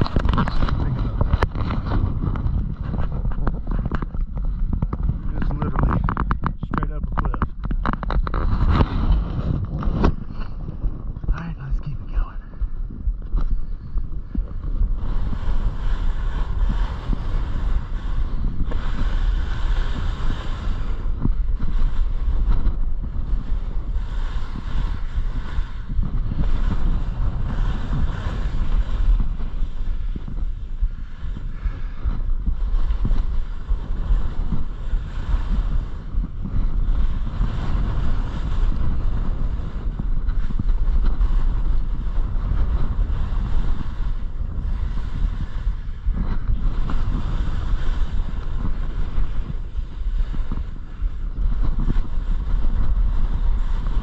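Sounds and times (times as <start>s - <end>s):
skis scraping on packed snow: 0.0s - 12.2s, 13.2s - 54.0s
wind buffeting microphone: 0.0s - 54.0s.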